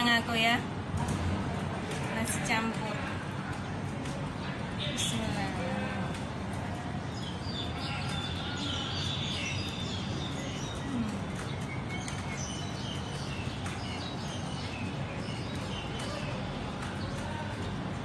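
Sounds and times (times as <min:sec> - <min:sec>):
outdoor background noise: 0:00.0 - 0:18.0
small birds chirping: 0:01.5 - 0:18.0.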